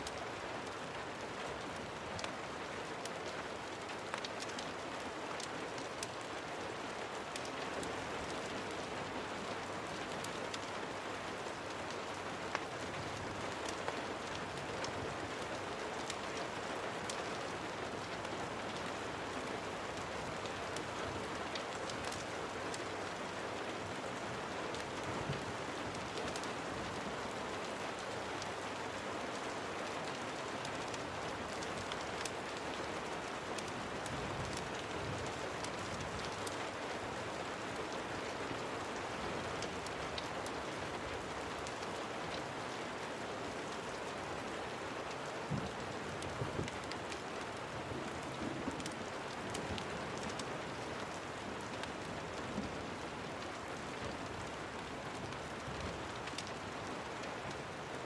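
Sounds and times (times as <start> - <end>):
raindrop ticks: 0.0 - 58.0
steady rain hiss: 0.0 - 58.0.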